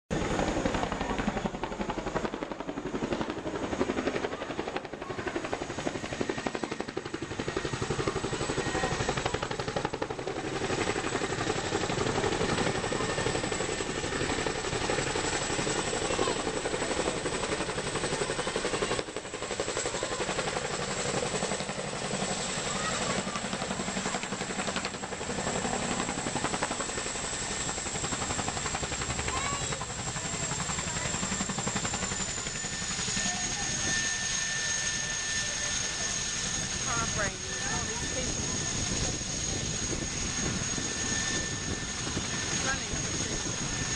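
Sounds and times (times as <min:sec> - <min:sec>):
helicopter rotor chopping: 0:00.1 - 0:43.9.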